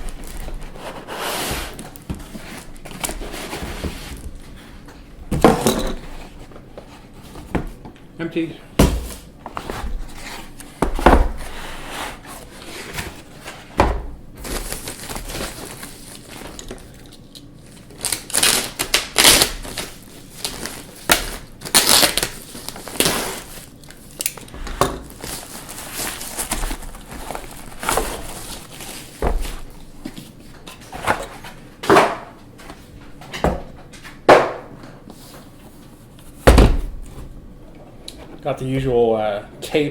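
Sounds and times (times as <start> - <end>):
cardboard and plastic packaging rustling: 0.0 - 34.3.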